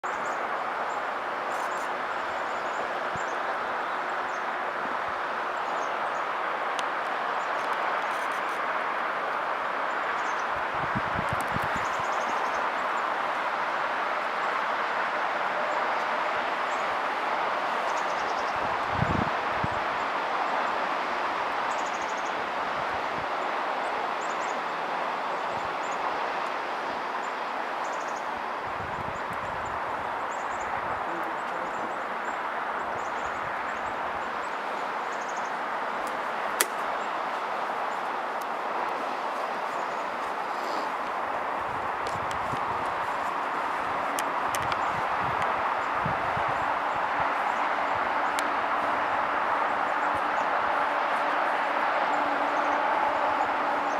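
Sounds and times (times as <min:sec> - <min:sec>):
outdoor background noise: 0:00.0 - 0:53.9.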